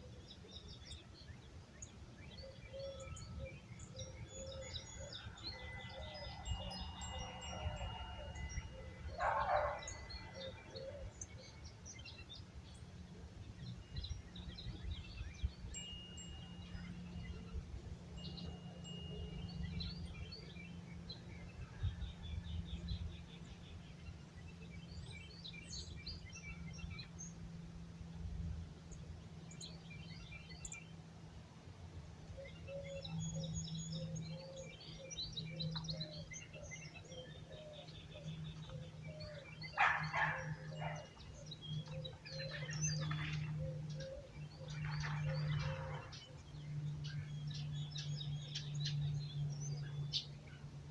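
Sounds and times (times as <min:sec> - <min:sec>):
songbirds chirping and singing: 0:00.0 - 0:50.9.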